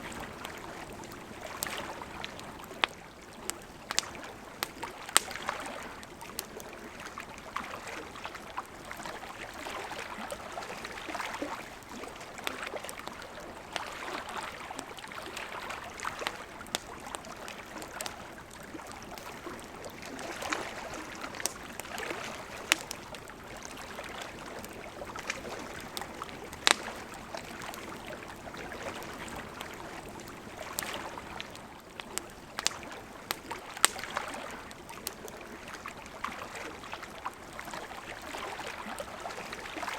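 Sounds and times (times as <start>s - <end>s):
campfire crackling: 0.0s - 39.9s
water lapping at shore: 0.0s - 39.9s.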